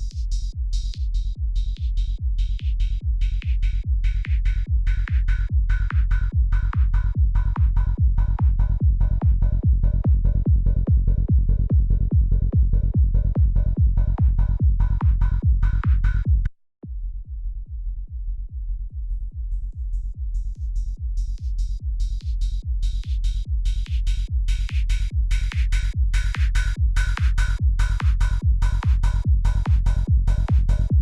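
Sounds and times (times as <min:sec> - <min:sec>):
kick drum and bass beat: 0:00.0 - 0:31.0.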